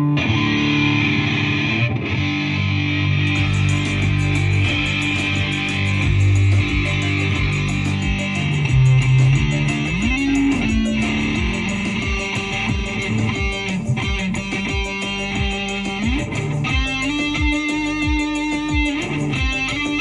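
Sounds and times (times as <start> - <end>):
electric guitar sliding notes: 0.0 - 20.0
steady low pulse: 3.3 - 20.0.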